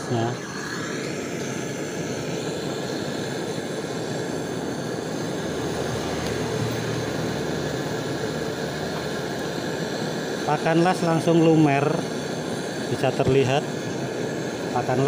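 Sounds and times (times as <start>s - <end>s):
gas torch hissing: 0.0s - 15.0s.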